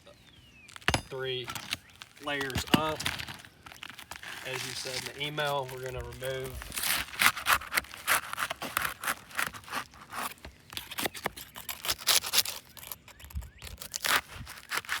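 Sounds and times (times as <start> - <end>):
roof shingles scraping and crackling: 0.1 - 15.0.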